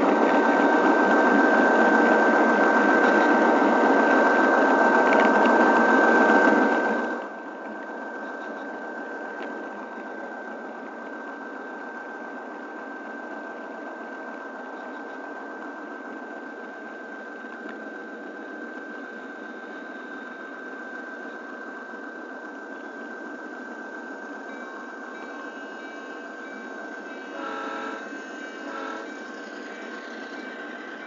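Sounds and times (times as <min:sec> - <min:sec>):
model train motor whirring: 0:00.0 - 0:31.0
wheels rolling on rails: 0:00.0 - 0:31.0.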